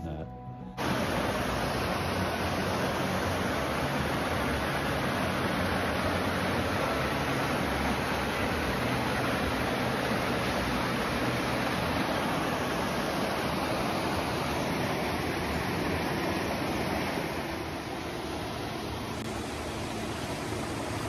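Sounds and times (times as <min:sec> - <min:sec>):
creek rushing over rocks: 0:00.8 - 0:21.0.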